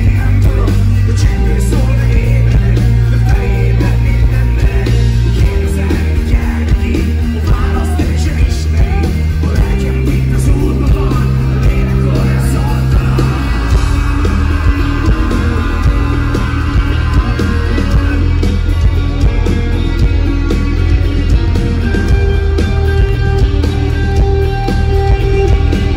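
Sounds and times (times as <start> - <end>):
man singing: 0.0 - 19.5, 24.4 - 25.9
keyboards: 0.0 - 25.9
live rock band playing: 0.0 - 25.9.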